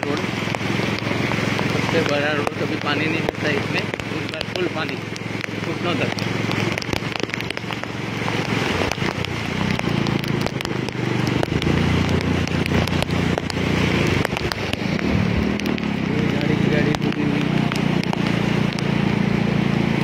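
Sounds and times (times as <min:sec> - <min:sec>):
heavy rain on street: 0:00.0 - 0:20.0.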